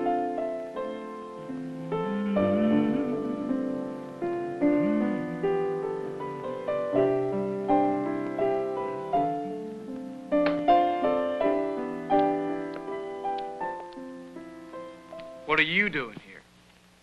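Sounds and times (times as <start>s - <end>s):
slow solo piano: 0.0s - 15.4s.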